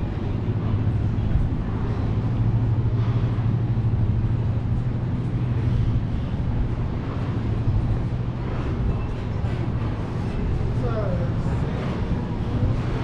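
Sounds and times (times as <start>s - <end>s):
city background noise: 0.0s - 13.0s
low engine hum: 0.0s - 13.0s.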